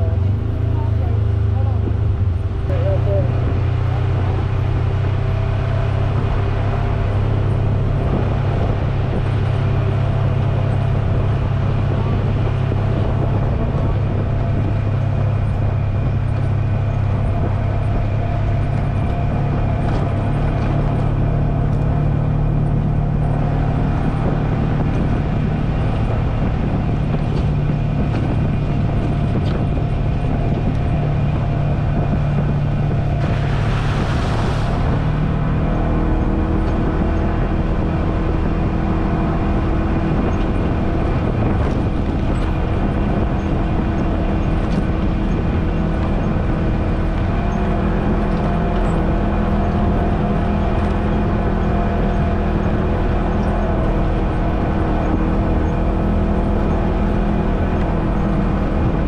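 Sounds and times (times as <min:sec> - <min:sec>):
off-road vehicle engine droning: 0:00.0 - 0:59.0.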